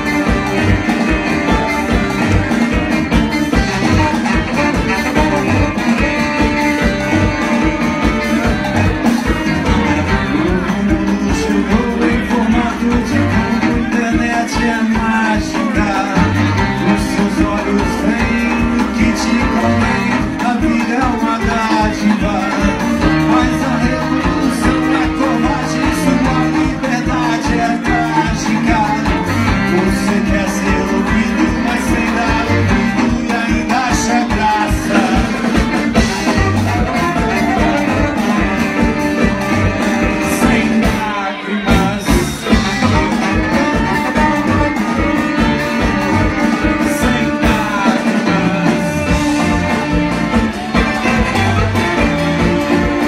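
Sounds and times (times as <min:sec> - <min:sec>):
bass guitar: 0:00.0 - 0:53.0
drum beat: 0:00.0 - 0:53.0
electric guitars: 0:00.0 - 0:53.0
rock band playing: 0:00.0 - 0:53.0.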